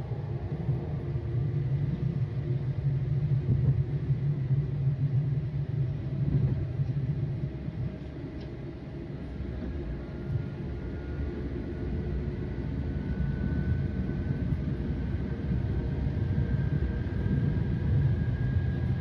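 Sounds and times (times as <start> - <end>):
train running low rumble: 0.0 - 19.0.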